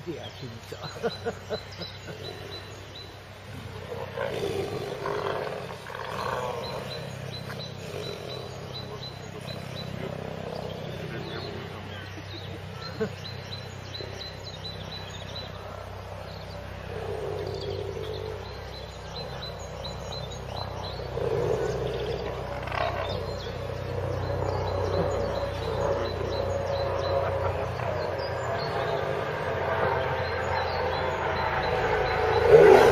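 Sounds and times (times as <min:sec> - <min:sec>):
small birds chirping: 0:00.0 - 0:32.9
tigers growling: 0:00.6 - 0:32.9.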